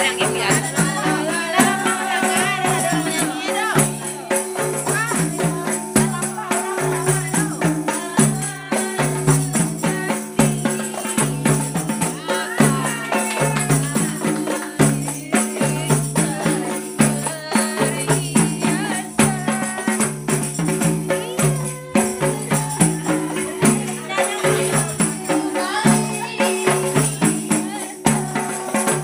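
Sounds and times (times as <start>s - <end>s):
frame drums beating: 0.0s - 29.0s
tambourine jingles rattling: 0.0s - 29.0s.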